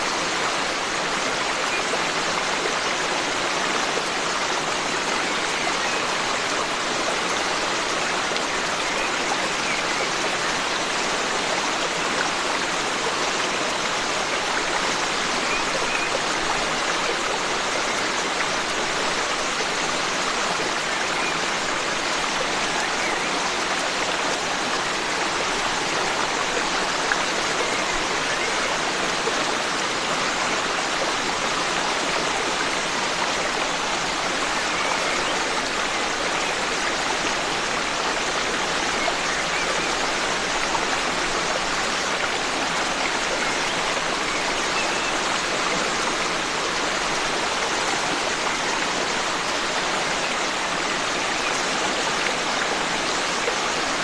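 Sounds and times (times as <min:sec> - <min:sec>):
stream flowing water: 0:00.0 - 0:54.0.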